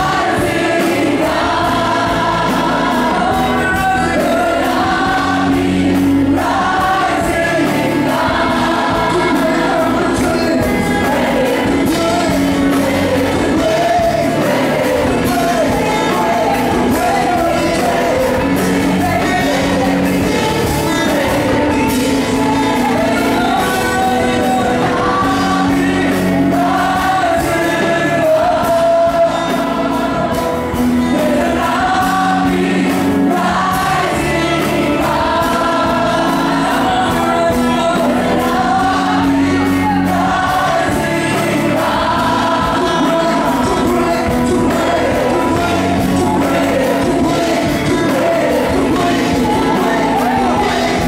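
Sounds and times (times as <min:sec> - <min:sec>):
keyboard and band: 0:00.0 - 0:51.0
lead singer and choir singing: 0:00.0 - 0:51.0.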